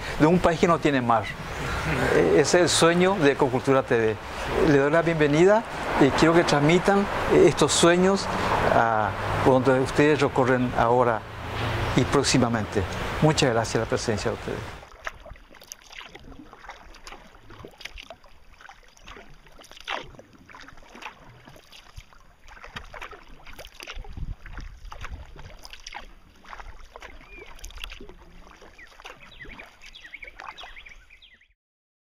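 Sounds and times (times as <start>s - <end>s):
paddles splashing in water: 0.0s - 31.4s.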